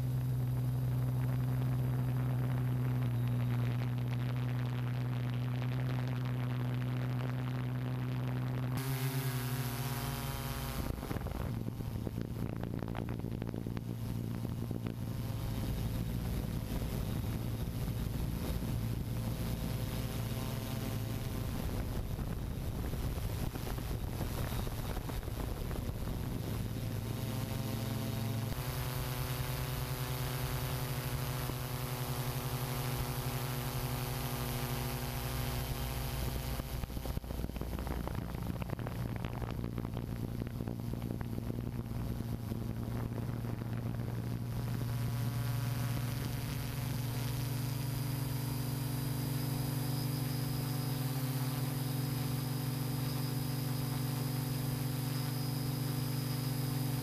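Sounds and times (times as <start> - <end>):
air noise: 0.0 - 57.0
drone motors humming: 0.0 - 57.0.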